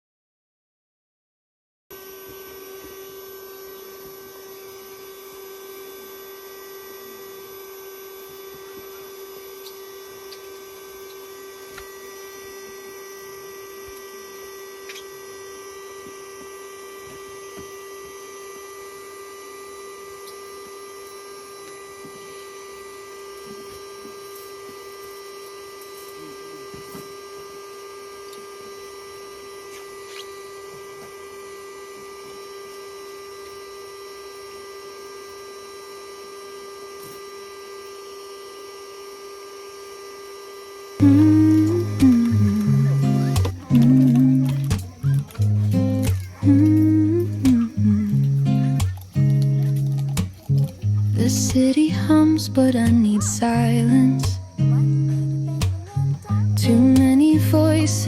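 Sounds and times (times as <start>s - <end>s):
steady hum: 1.9s - 58.0s.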